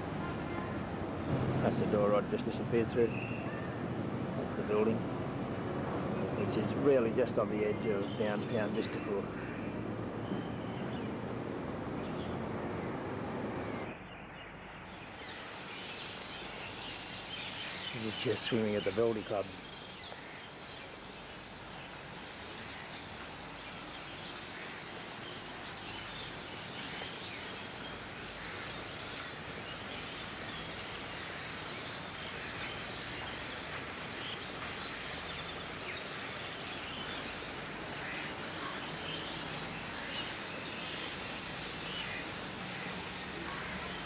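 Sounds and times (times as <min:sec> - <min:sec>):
steady outdoor hiss: 0:00.0 - 0:44.0.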